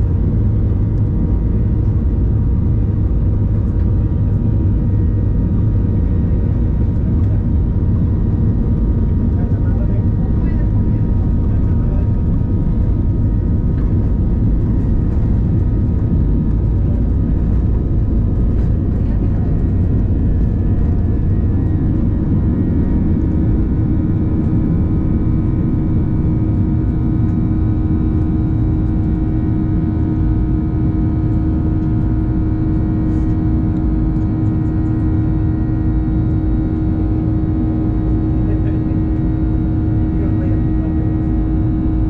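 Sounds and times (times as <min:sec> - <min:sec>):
jet engines roaring in cabin: 0:00.0 - 0:42.0.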